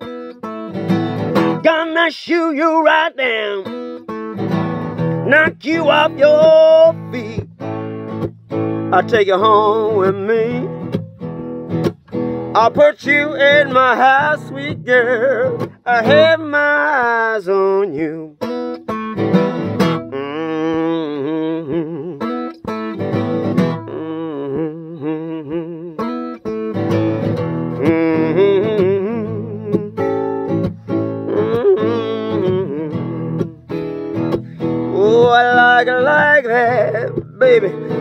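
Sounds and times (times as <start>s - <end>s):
acoustic guitar blues: 0.0s - 38.0s.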